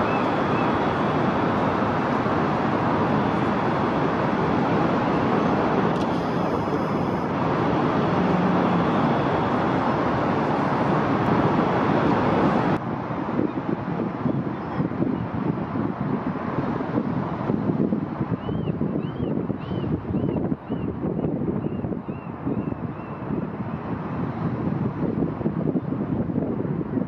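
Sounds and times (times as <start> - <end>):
dense city traffic hum: 0.0 - 27.0.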